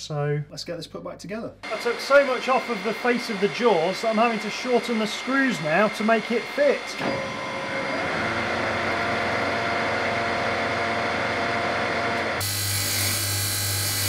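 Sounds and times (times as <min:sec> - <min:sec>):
bench grinder grinding metal: 0:01.6 - 0:14.0
metal lathe running: 0:01.6 - 0:14.0.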